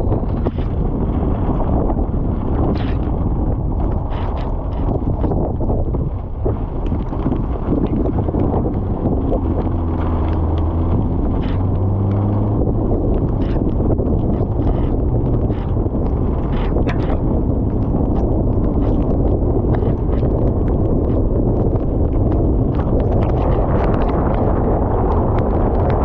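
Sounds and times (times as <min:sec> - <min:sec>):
low steady hum: 0:00.0 - 0:26.0
wind buffeting microphone: 0:00.0 - 0:26.0.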